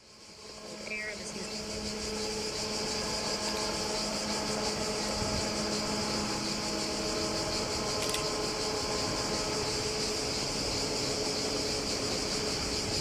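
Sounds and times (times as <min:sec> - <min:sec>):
train engine humming: 0:00.0 - 0:13.0
high buzz: 0:00.3 - 0:13.0.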